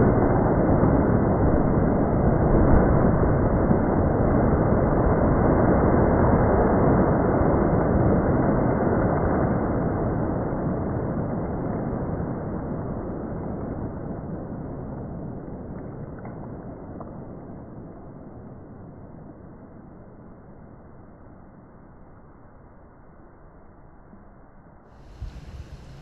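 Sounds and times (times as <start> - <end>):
dense rumbling noise: 0.0 - 26.0.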